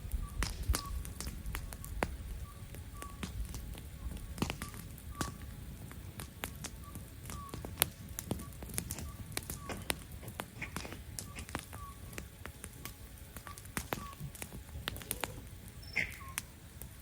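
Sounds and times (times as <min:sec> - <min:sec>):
campfire crackling: 0:00.0 - 0:17.0
fire rumbling: 0:00.0 - 0:17.0.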